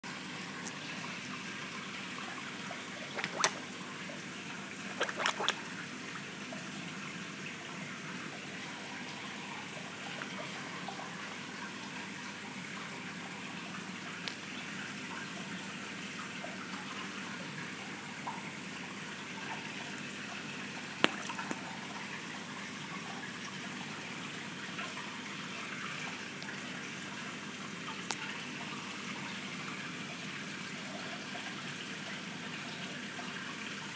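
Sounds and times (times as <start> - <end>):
water trickling in a tank: 0.1 - 33.9.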